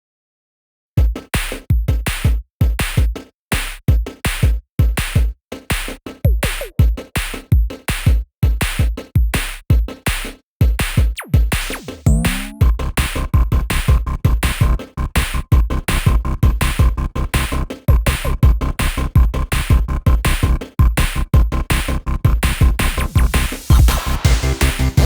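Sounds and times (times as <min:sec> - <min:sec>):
electronic music with drum-machine beat: 0:01.0 - 0:25.0.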